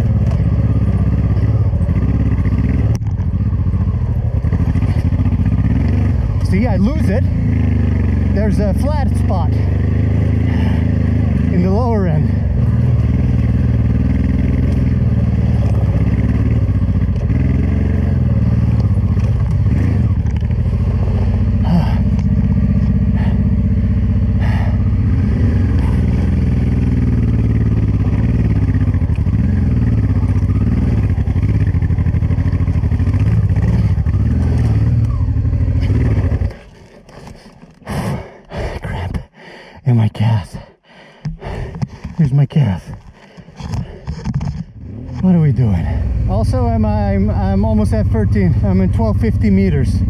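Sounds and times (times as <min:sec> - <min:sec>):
motorcycle engine pulling at low revs: 0:00.0 - 0:39.4, 0:42.8 - 0:50.0.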